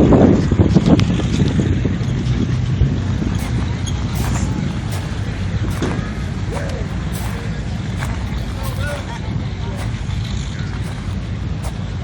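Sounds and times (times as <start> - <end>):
engine rumbling: 0.5 - 12.0.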